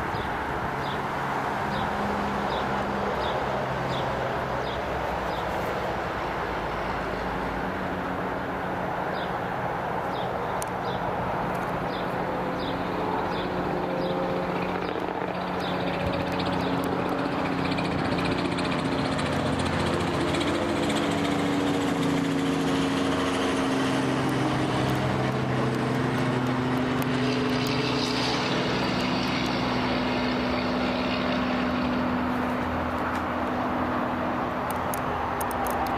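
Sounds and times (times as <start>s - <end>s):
helicopter passing overhead: 0.0s - 35.9s.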